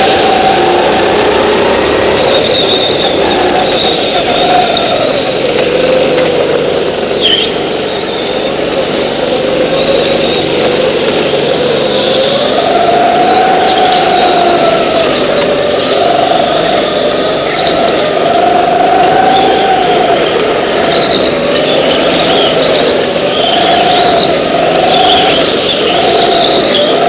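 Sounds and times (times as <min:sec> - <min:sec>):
go-kart engines running hard: 0:00.0 - 0:27.0.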